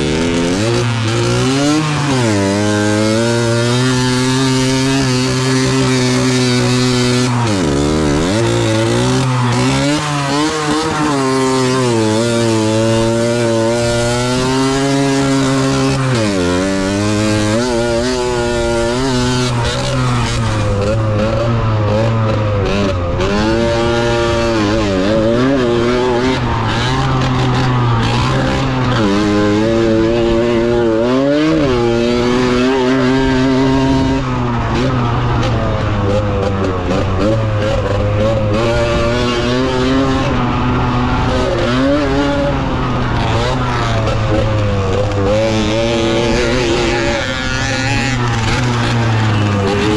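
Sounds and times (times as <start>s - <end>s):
two-stroke motorcycle engine revving: 0.0s - 49.9s.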